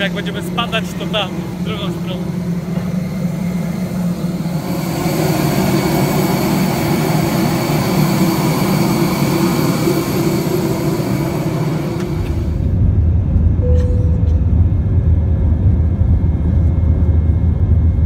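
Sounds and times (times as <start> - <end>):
deep low rumble: 0.0 - 18.0
jet turbines whining: 0.0 - 18.0.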